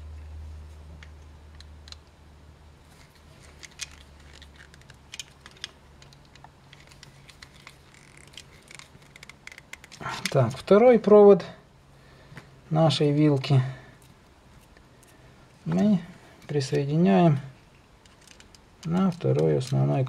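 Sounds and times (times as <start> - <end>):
low hum: 0.0 - 19.4.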